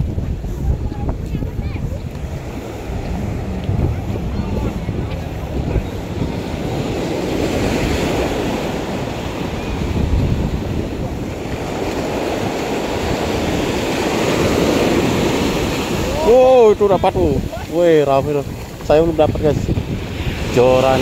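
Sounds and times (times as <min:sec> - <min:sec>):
ocean surf breaking: 0:00.0 - 0:21.0
wind rumbling on microphone: 0:00.0 - 0:21.0.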